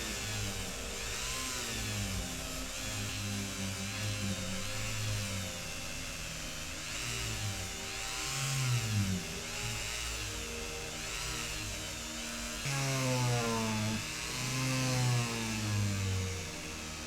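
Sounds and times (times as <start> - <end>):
small electric power tool running: 0.0 - 17.0.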